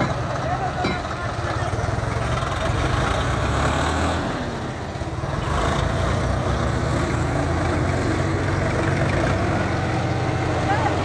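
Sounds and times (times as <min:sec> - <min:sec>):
tractor diesel engines running hard: 0:00.0 - 0:11.0.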